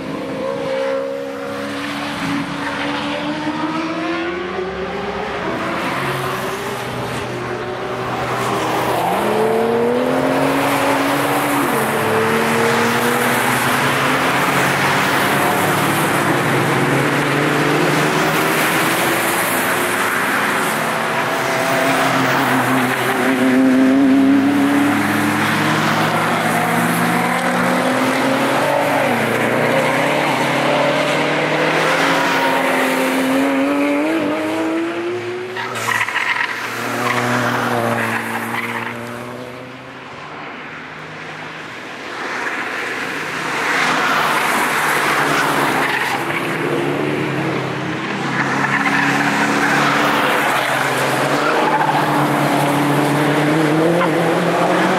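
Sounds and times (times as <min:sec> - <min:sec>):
cars passing at speed: 0:00.0 - 0:54.9
tyre and road noise: 0:00.0 - 0:54.9.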